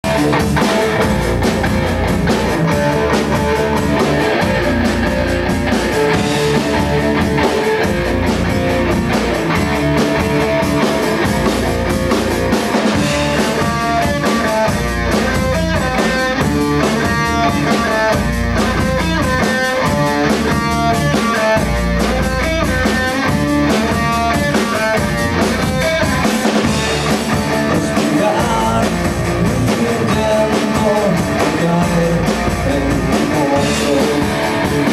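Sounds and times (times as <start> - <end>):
drum kit beat: 0.0 - 34.9
electric guitar: 0.0 - 34.9.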